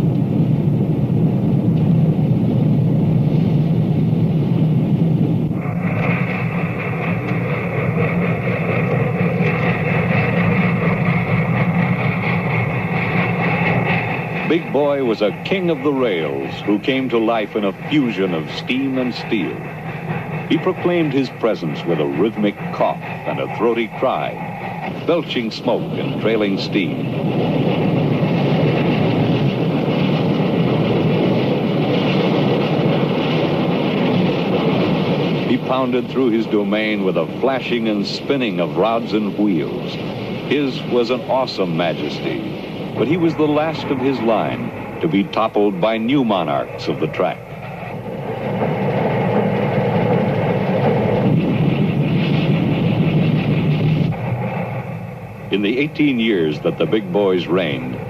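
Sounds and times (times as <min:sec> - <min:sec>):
steam locomotive running: 0:00.0 - 0:58.0
steam hiss: 0:05.5 - 0:58.0.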